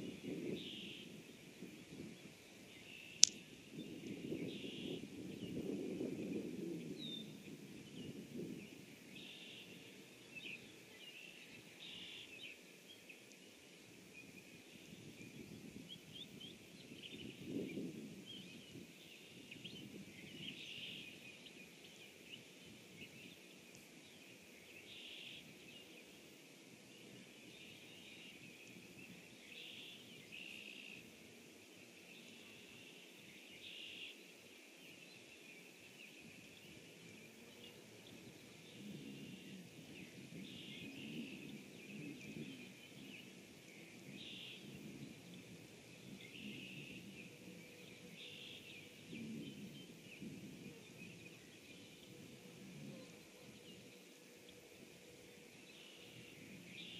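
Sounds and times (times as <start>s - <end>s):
distant songbirds chirping: 0.0s - 56.9s
steady hiss: 0.0s - 56.9s.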